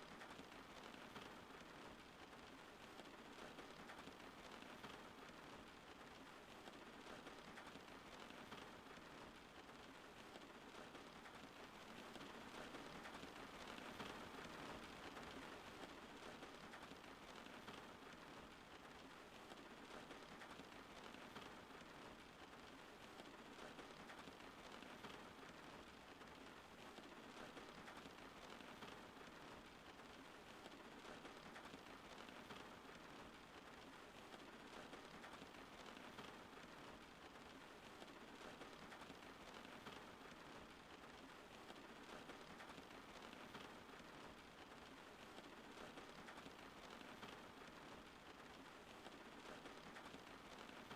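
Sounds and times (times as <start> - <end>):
faint steady rain: 0.0 - 50.9.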